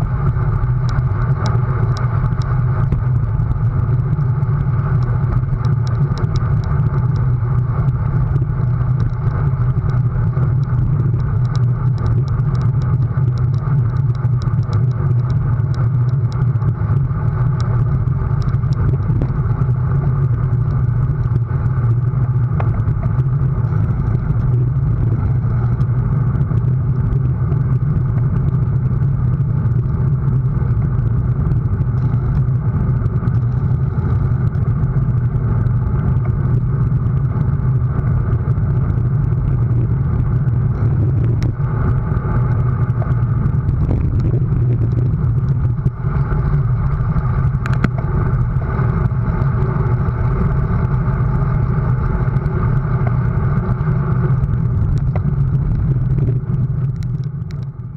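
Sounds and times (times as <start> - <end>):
bicycle tyre rumble: 0.0 - 57.9
wind rush on microphone: 0.0 - 57.9.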